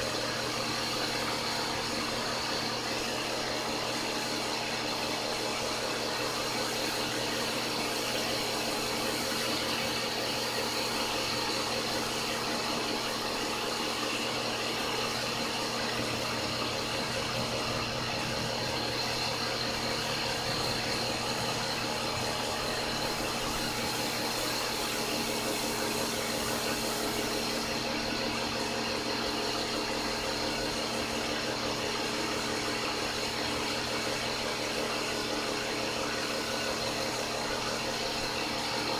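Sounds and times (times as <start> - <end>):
pump motor hum: 0.0 - 38.9.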